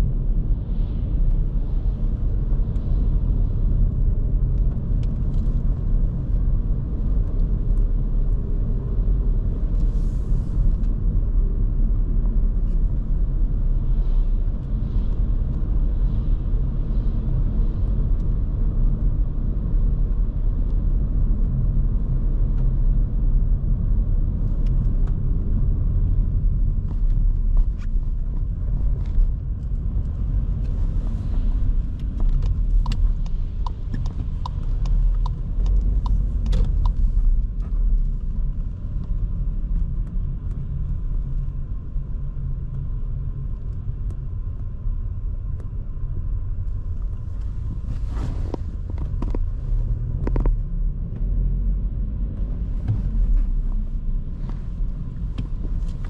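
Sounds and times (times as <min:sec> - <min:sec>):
car engine rumble: 0:00.0 - 0:56.0
tyre road noise: 0:00.0 - 0:56.0.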